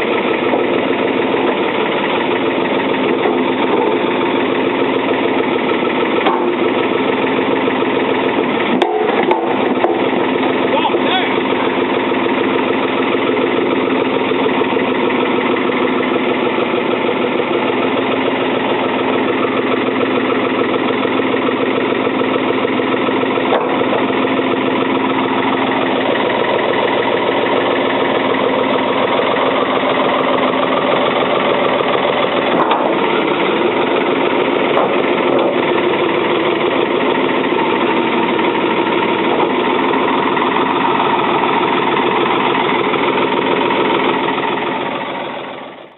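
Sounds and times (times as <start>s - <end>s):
backhoe diesel engine running: 0.0s - 45.9s.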